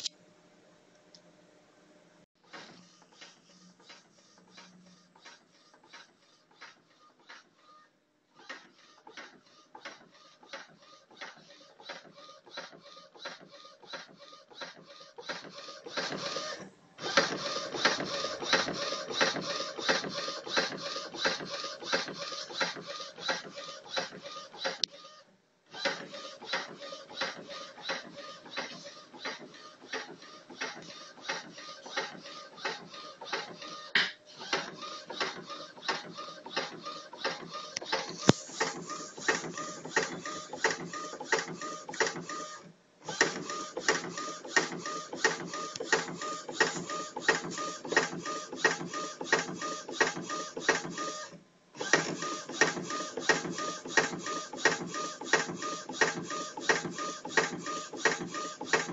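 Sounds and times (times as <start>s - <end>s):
inkjet printer clicking: 8.4s - 25.0s, 25.8s - 58.9s.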